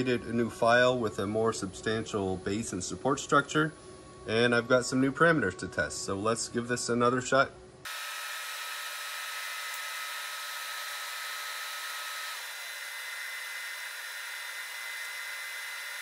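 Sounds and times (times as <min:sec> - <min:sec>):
higher machine whine: 0:00.0 - 0:16.0
thin machine whine: 0:00.0 - 0:16.0.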